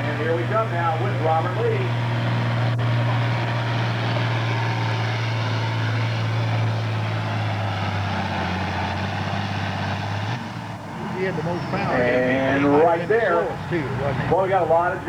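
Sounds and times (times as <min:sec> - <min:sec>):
tractor diesel engine at full throttle: 0:00.0 - 0:15.0.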